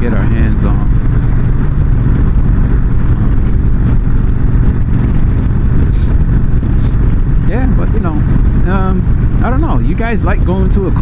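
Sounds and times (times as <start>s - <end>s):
motorcycle engine cruising: 0.0s - 11.0s
wind rushing over microphone: 0.0s - 11.0s.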